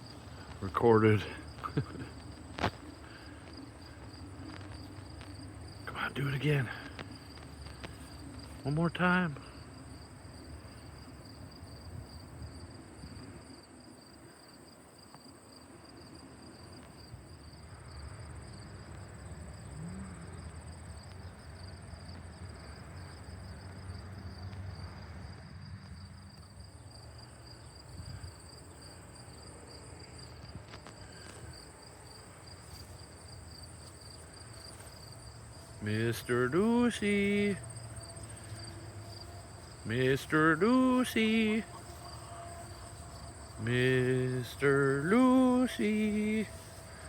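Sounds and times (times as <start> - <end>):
low outdoor rumble: 0.0 - 13.9, 15.7 - 47.0
insects trilling: 0.0 - 47.0.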